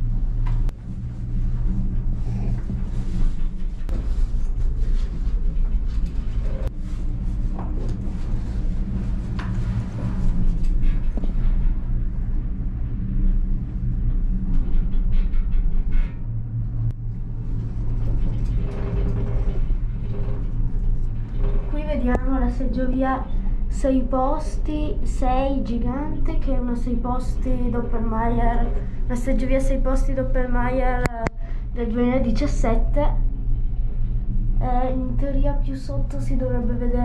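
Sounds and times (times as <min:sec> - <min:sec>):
gondola cabin rumble and hum: 0:00.0 - 0:37.0.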